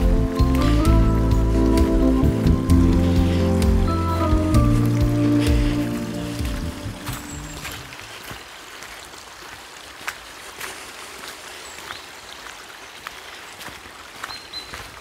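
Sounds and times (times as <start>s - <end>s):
stream flowing: 0.0s - 15.0s
soft footsteps: 2.8s - 15.0s.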